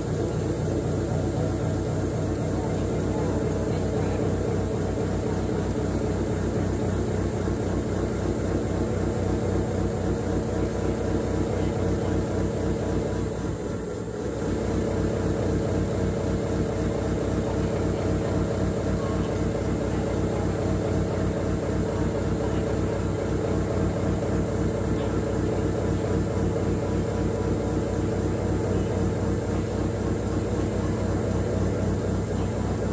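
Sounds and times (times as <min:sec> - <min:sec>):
pipe-threading machine humming: 0:00.0 - 0:32.9.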